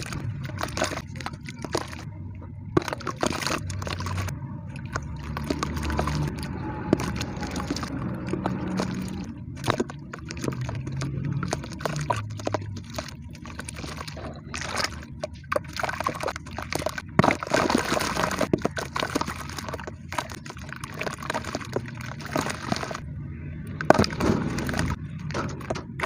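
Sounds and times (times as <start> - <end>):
cement clumps cracking: 0.0 - 2.1, 2.7 - 23.0, 23.7 - 26.0
wet sloshing: 0.0 - 26.0.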